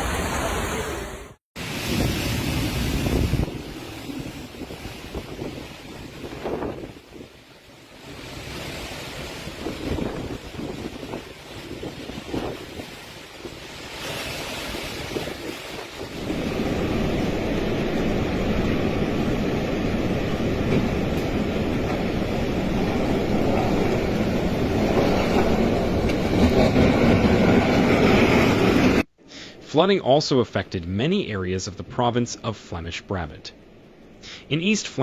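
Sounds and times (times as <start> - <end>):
strong storm wind rushing: 0.0 - 29.1.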